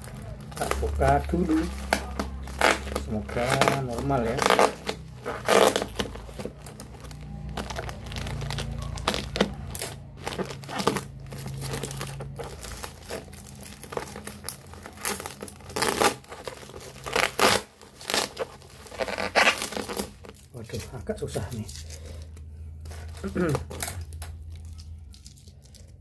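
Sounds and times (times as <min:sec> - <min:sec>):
bubble wrap crackling: 0:00.0 - 0:26.0.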